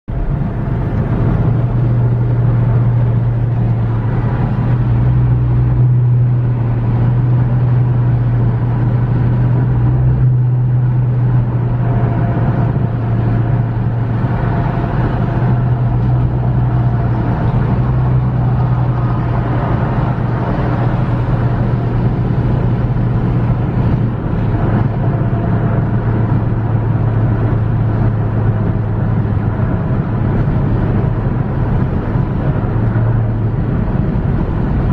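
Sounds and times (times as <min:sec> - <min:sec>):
car driving on highway: 0:00.1 - 0:34.9.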